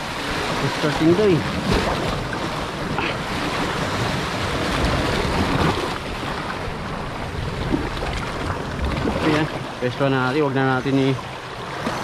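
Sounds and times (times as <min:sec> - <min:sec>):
surf washing against rocks: 0:00.0 - 0:12.0.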